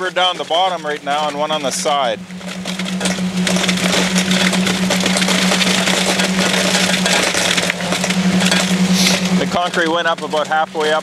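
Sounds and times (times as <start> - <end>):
concrete vibrator buzzing: 0.0 - 11.0.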